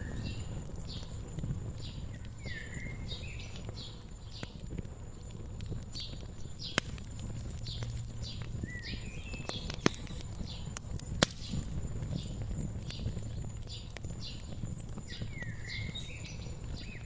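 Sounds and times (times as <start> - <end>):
fire popping sharply: 0.0 - 17.0
small birds chirping: 0.0 - 17.0
wood fire crackling: 0.0 - 17.0.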